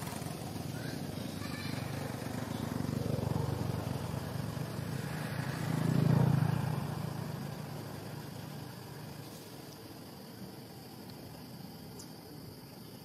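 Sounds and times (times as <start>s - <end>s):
vehicle engine rumble passing: 0.0s - 11.8s.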